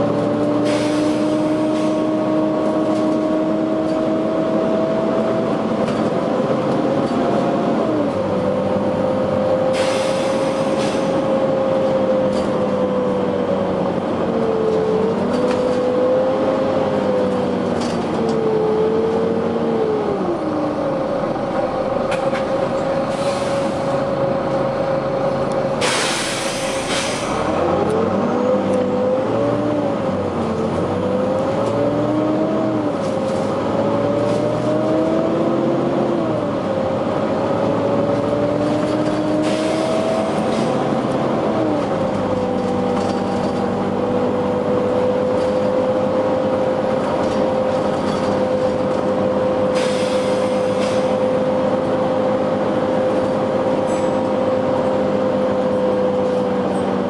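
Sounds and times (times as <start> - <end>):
bus engine whining and humming: 0.0 - 57.0.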